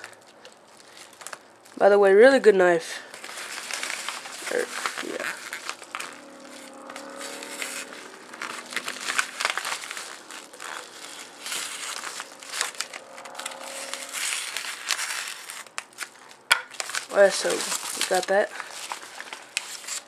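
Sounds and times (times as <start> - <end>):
paper crinkling: 0.0 - 1.8, 3.0 - 20.0.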